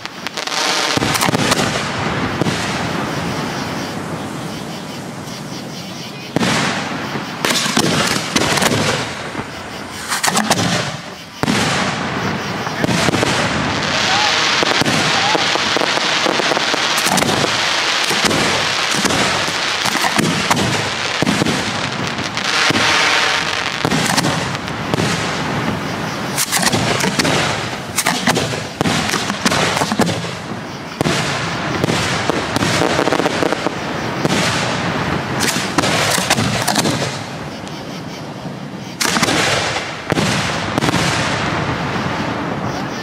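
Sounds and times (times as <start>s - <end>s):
fireworks booming and crackling: 0.0s - 43.0s.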